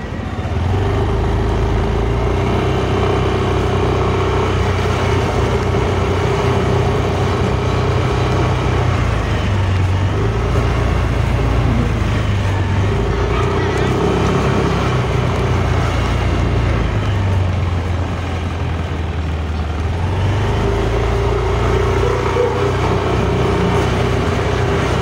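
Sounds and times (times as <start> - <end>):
scooter engine running: 0.0 - 25.0.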